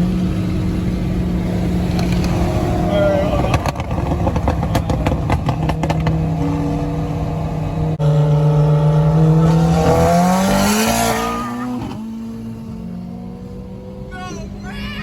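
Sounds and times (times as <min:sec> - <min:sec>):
car engine and exhaust revving: 0:00.0 - 0:15.0.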